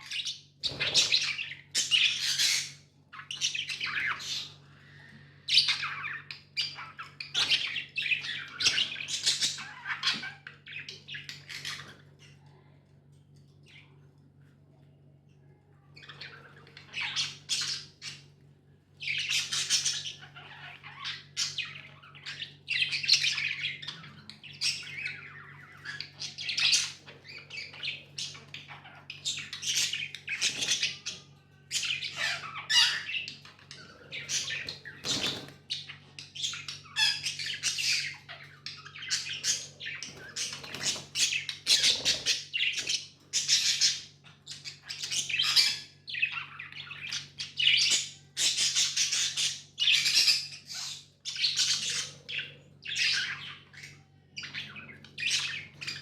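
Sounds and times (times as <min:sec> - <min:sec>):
budgies squawking and chirping: 0:00.0 - 0:12.7, 0:16.0 - 0:56.0.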